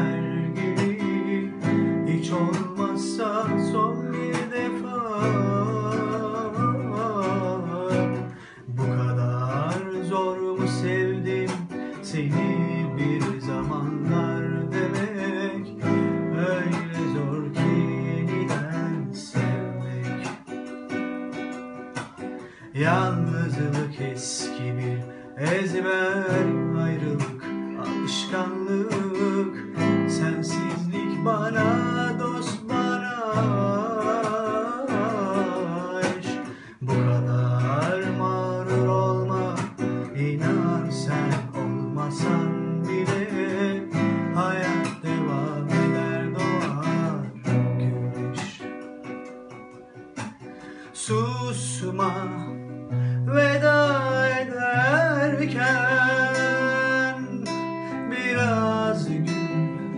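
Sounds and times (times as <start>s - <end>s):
person singing: 0.0s - 20.8s, 21.4s - 49.3s, 50.2s - 59.9s
acoustic guitar strumming chords: 0.0s - 59.9s.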